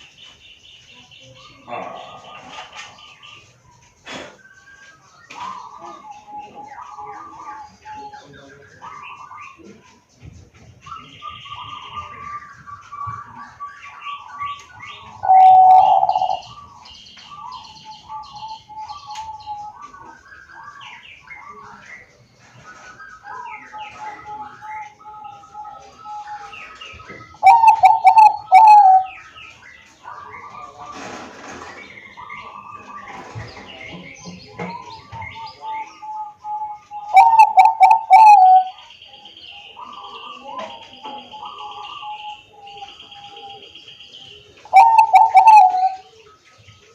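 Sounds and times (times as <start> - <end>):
small birds chirping: 0.0 - 46.9
dove trilled coo: 1.4 - 29.3, 30.0 - 38.9, 39.6 - 43.7, 44.4 - 46.9.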